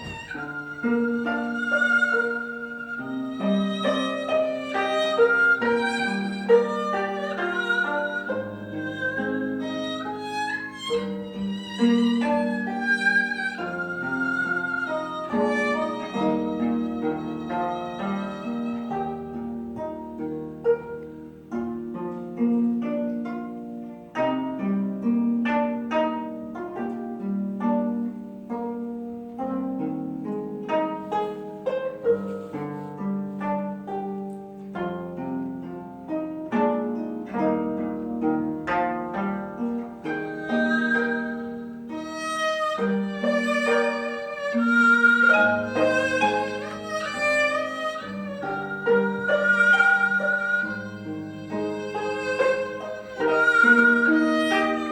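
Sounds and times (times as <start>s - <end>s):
bowed fiddle melody: 0.0s - 54.9s
plucked zither notes: 0.0s - 54.9s.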